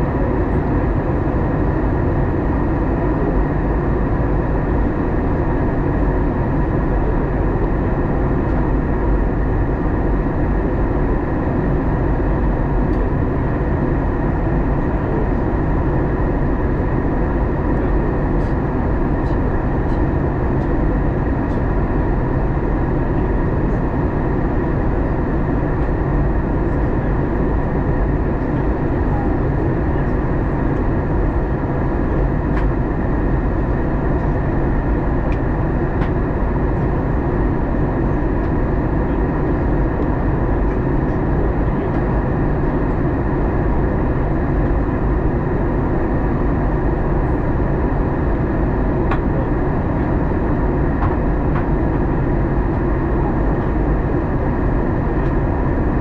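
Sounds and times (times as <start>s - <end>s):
jet engine drone: 0.0s - 56.0s.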